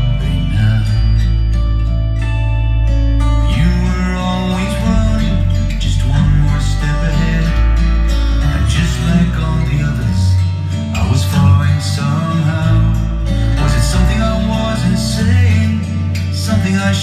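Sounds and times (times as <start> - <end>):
song with guitar and bass: 0.0 - 17.0.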